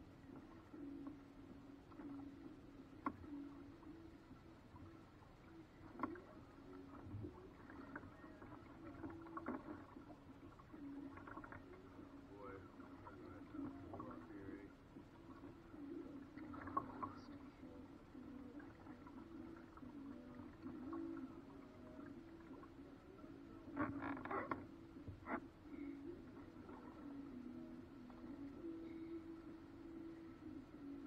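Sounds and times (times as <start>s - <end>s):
water lapping against boat hull: 0.0s - 31.0s.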